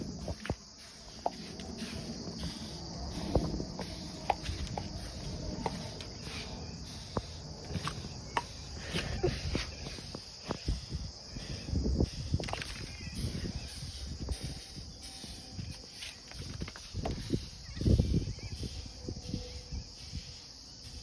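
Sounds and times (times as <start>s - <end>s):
insect chirring: 0.0s - 21.0s.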